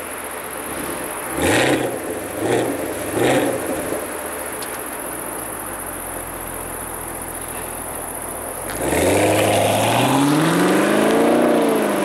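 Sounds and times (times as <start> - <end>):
car engine revving and idling: 0.2 - 12.0.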